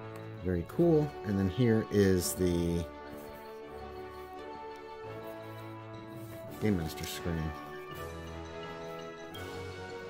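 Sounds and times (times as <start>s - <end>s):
soft music of sustained chords: 0.0s - 10.0s.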